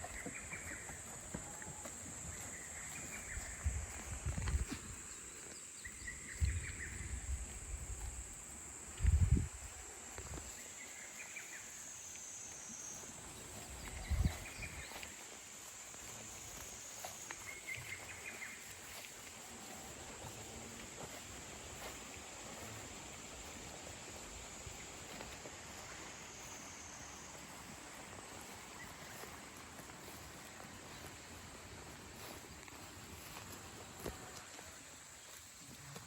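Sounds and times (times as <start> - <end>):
insect chirps: 0.0 - 36.0.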